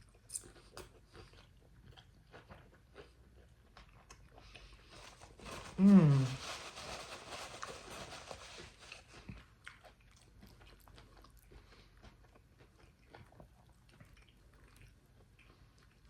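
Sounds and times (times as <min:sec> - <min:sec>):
faint chewing with small crunches: 0:00.0 - 0:16.0.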